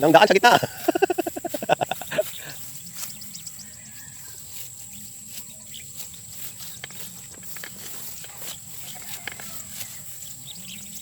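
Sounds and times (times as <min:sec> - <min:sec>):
low field background noise: 0:00.0 - 0:11.0.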